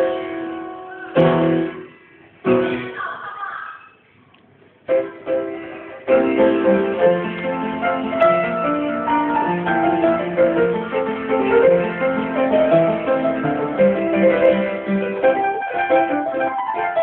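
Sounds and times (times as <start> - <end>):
piano playing: 0.0 - 3.0, 4.8 - 17.0.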